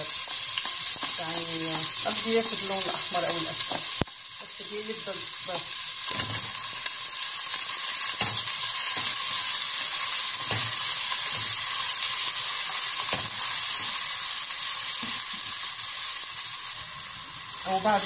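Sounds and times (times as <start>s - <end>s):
onion sizzling in oil: 0.0s - 18.0s.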